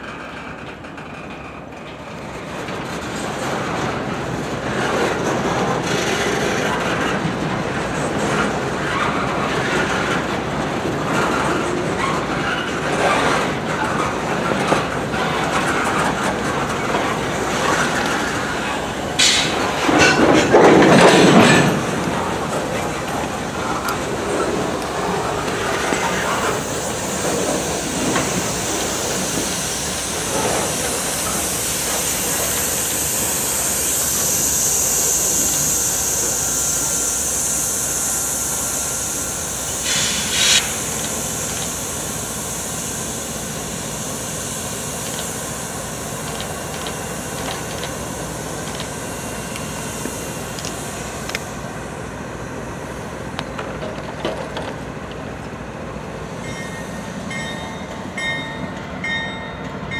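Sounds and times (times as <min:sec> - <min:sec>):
freight train rolling on rails: 0:00.0 - 0:59.9.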